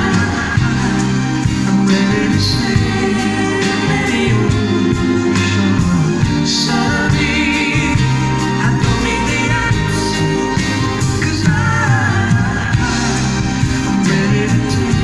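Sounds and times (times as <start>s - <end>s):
live pop band playing a ballad: 0.0s - 15.0s.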